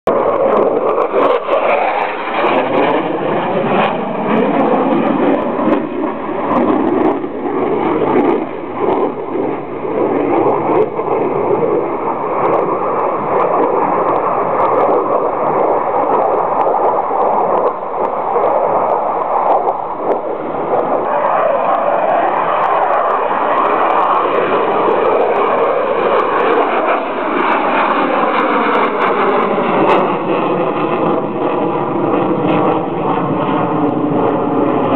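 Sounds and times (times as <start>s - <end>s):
fighter jet roaring: 0.1s - 34.9s.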